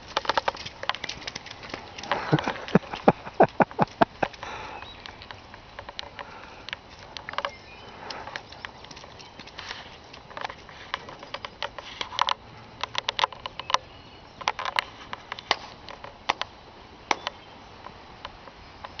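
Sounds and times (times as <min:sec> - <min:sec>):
faint steady background noise: 0:00.0 - 0:19.0.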